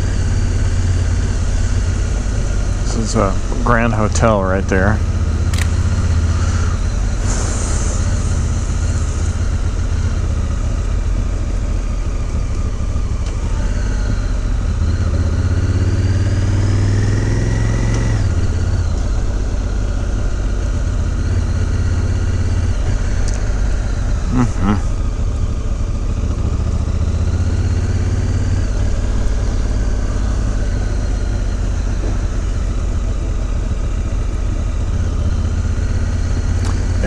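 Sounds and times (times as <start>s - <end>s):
motorcycle engine revving: 0.0s - 37.0s
road noise: 0.0s - 37.0s.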